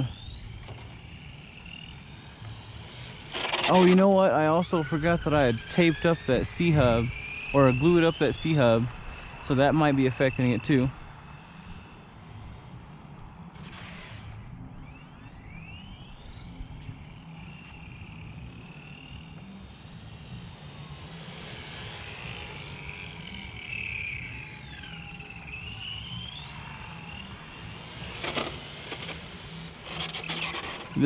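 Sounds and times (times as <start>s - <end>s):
electric toy car motor whining: 0.0s - 31.0s.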